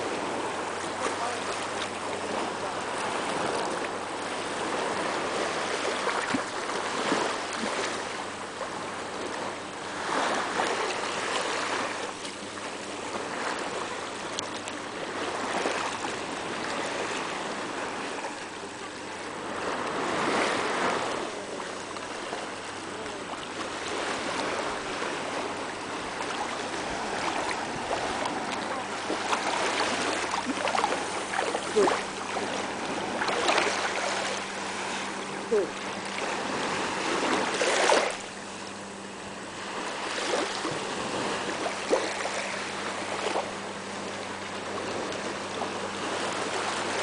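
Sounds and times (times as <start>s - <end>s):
sea water lapping: 0.0s - 47.0s.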